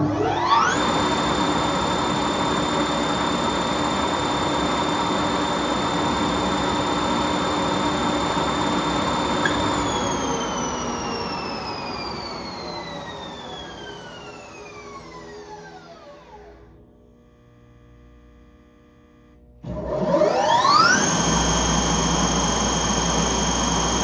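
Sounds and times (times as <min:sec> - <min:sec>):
machine spindles whining: 0:00.0 - 0:16.7, 0:19.8 - 0:24.0.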